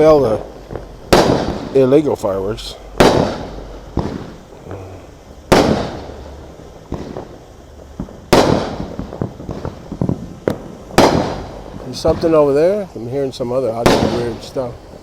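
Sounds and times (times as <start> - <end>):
small firework pops and cracks: 0.0 - 2.1, 3.0 - 12.9, 13.7 - 15.0
fireworks exploding: 0.0 - 15.0.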